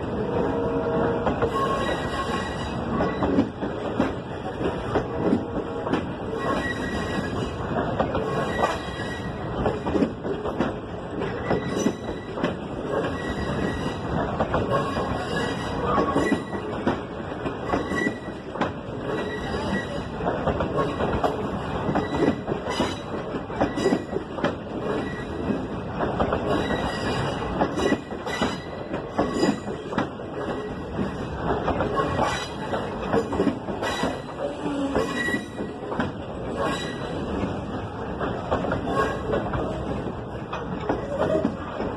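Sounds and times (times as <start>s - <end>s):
train rolling noise: 0.0s - 41.9s
train wheels knocking over rail joints: 1.2s - 41.9s.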